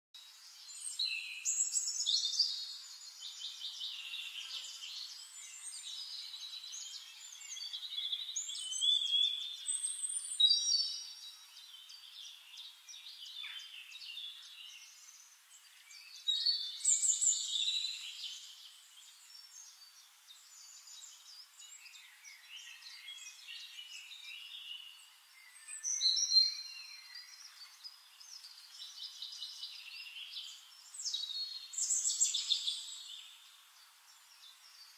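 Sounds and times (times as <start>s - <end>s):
songbirds singing and chirping: 0.2s - 34.9s.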